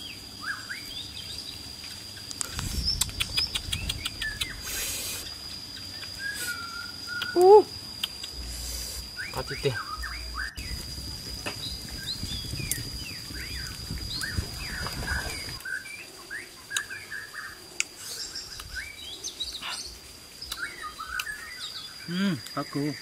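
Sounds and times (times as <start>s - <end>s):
small birds chirping: 0.0s - 23.0s
steady high whine: 0.0s - 23.0s.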